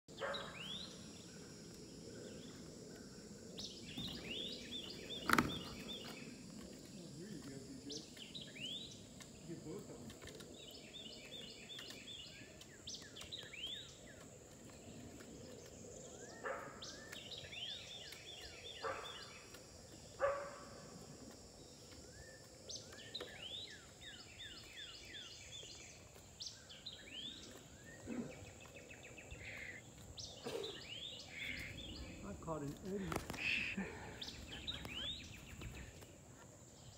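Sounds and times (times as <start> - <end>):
birds calling: 0.1 - 36.9
high insect drone: 0.1 - 36.9.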